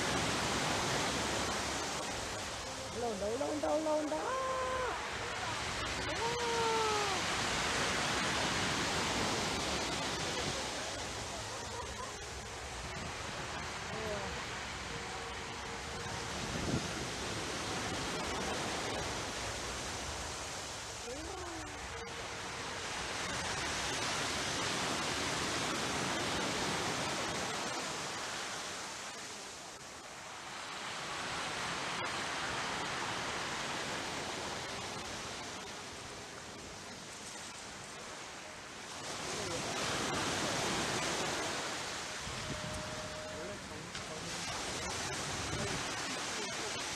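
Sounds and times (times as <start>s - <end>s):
surf washing on shore: 0.0s - 46.9s
waves breaking on sand beach: 0.0s - 46.9s.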